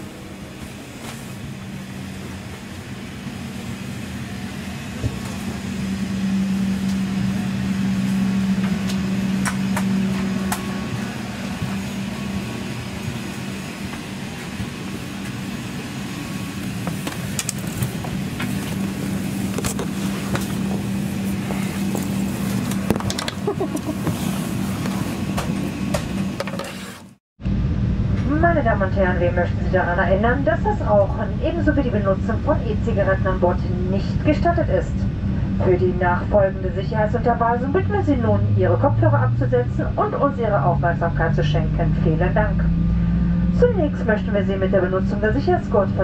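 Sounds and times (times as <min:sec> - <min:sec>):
aircraft cabin ventilation drone: 0:00.0 - 0:46.0.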